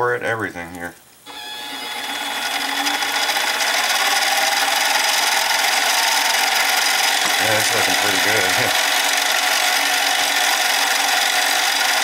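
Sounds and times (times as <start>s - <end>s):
faint motor whine: 1.3s - 12.0s.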